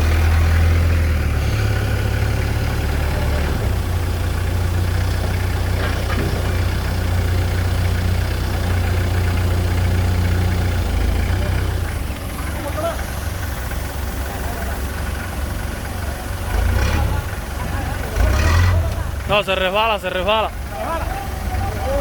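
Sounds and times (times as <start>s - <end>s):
heavy vehicle engine idling: 0.0s - 22.0s.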